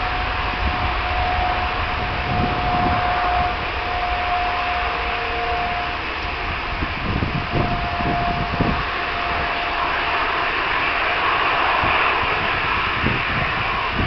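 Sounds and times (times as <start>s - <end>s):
high engine whine: 0.0s - 14.0s
jet engines roaring: 0.0s - 14.0s
low rumble: 0.0s - 14.0s.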